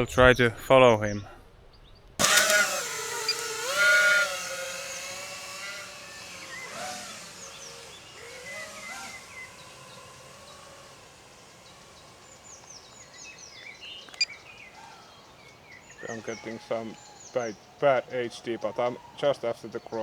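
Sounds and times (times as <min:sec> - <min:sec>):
birds chirping: 0:01.1 - 0:20.0
quadcopter motors whining: 0:02.2 - 0:20.0.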